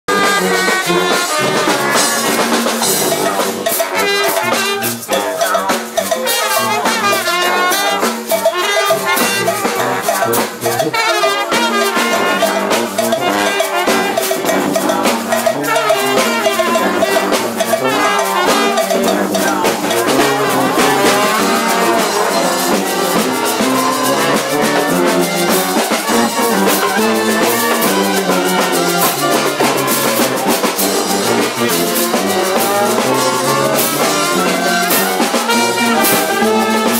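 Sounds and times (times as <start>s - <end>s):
trumpets and trombones: 0.0s - 36.9s
driving drum beat: 0.1s - 36.9s.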